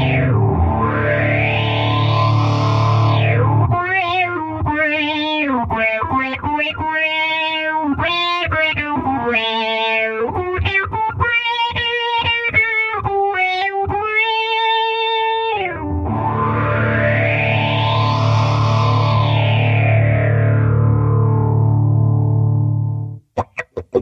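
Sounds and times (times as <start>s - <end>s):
filtered electric guitar notes: 0.0s - 24.0s.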